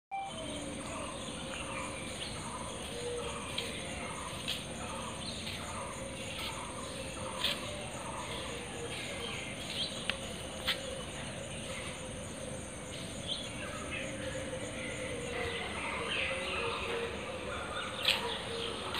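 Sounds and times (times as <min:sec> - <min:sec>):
birds chirping: 0:00.1 - 0:18.9.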